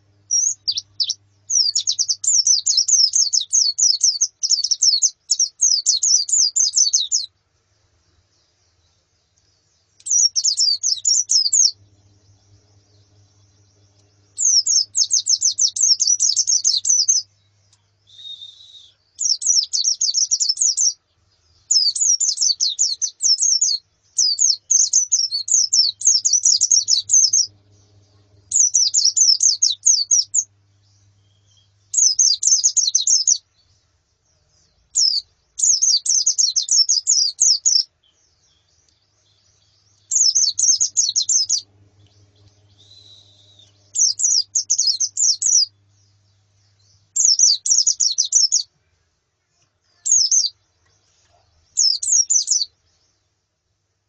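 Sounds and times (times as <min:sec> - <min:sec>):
birds twittering: 0:00.0 - 0:48.7, 0:49.5 - 0:53.4.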